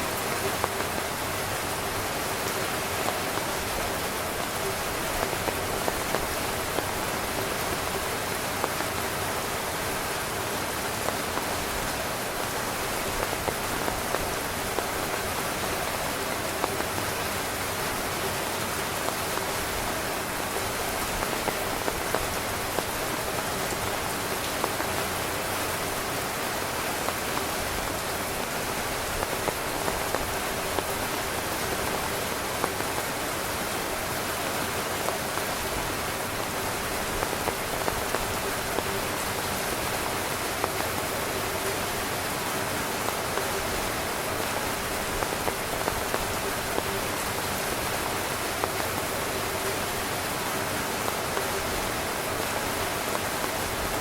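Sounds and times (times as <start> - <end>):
rain falling on a tent: 0.0 - 54.0.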